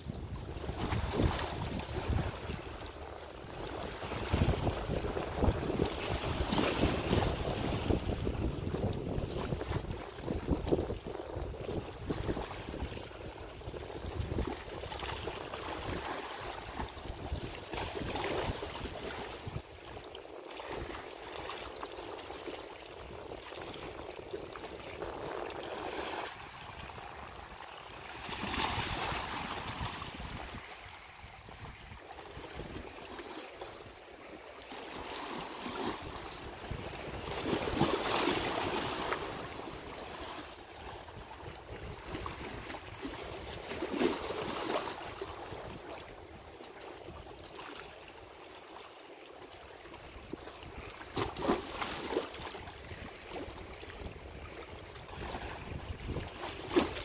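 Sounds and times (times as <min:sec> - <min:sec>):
small waves lapping on shore: 0:00.0 - 0:57.0.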